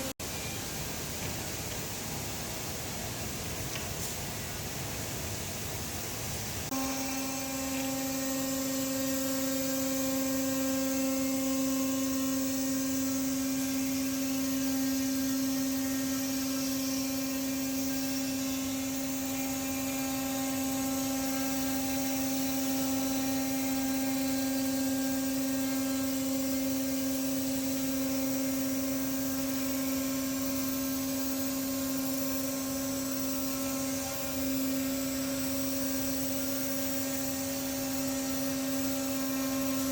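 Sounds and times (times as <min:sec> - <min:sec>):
router spindle whining: 0:06.7 - 0:39.9.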